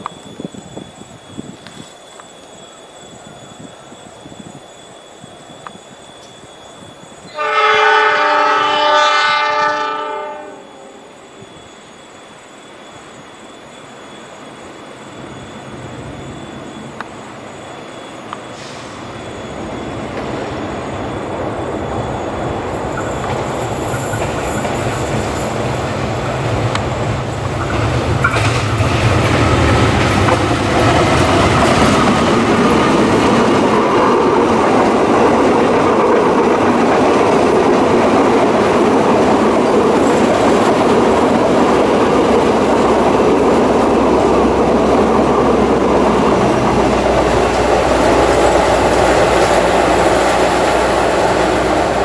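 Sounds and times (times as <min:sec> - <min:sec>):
coaches rumbling on rails: 0:00.0 - 0:52.0
diesel locomotive engine hum: 0:00.0 - 0:52.0.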